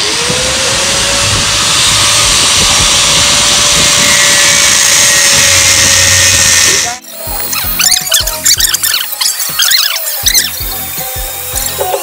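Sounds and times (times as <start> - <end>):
angle grinder whining: 0.0 - 12.0
grinding metal hiss: 0.0 - 12.0.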